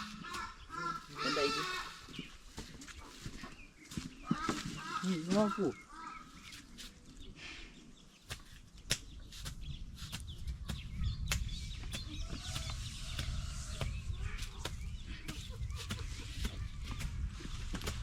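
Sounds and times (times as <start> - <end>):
chickens calling: 0.0 - 18.0
small birds calling: 0.0 - 18.0.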